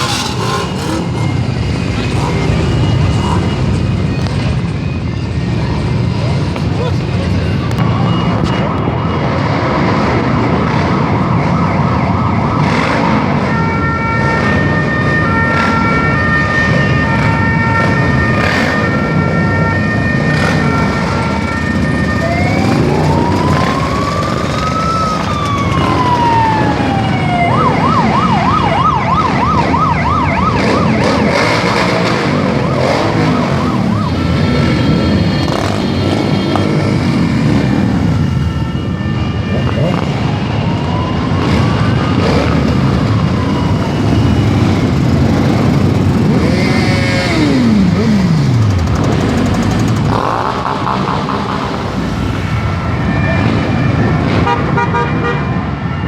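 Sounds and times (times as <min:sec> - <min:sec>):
motorcycle engines running: 0:00.0 - 0:55.2
police sirens: 0:00.0 - 0:56.0.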